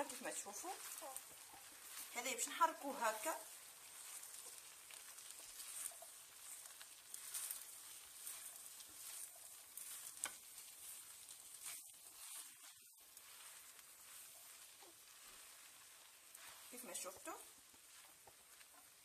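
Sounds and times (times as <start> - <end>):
pan sizzling: 0.0 - 19.0
spatula scraping rice in pan: 0.0 - 19.0.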